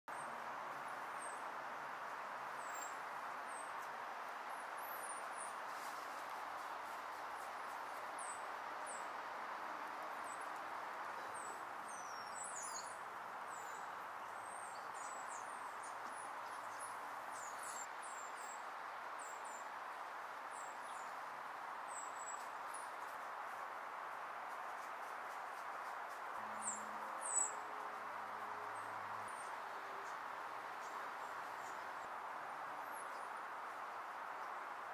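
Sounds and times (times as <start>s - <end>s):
steady background hiss: 0.1s - 34.9s.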